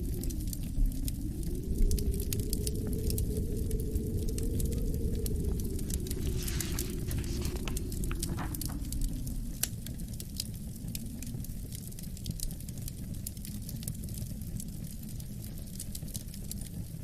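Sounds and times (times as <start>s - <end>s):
low wind rumble: 0.0s - 17.0s
wood fire crackling: 0.0s - 17.0s.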